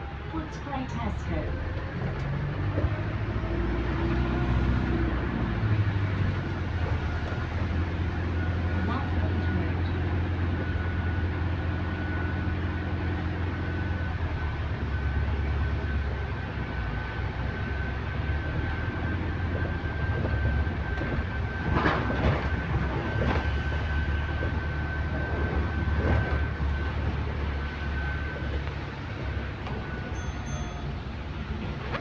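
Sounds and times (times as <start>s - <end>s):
low drone of ride: 0.0s - 32.0s.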